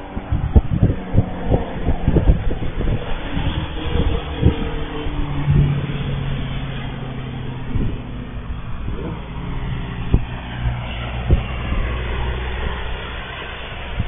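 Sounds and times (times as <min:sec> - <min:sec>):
distant helicopter hum: 0:00.0 - 0:14.0
wind buffeting microphone: 0:00.0 - 0:14.0.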